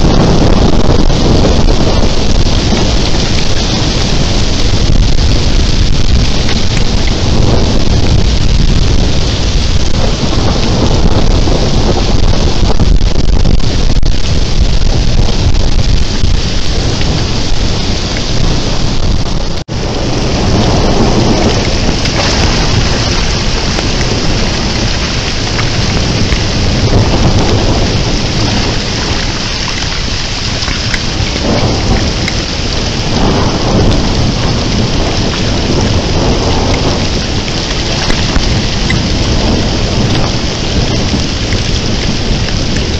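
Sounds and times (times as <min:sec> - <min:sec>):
heavy rain pouring: 0:00.0 - 0:42.9
thunder rumbling: 0:00.0 - 0:42.9.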